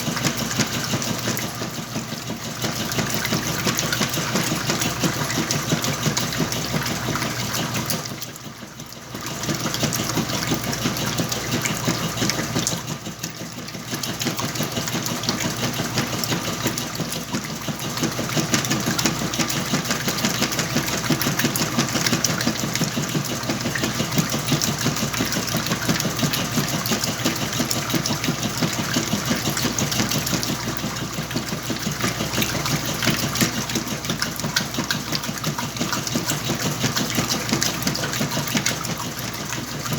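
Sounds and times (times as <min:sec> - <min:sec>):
washing machine drum churning: 0:00.0 - 0:39.9.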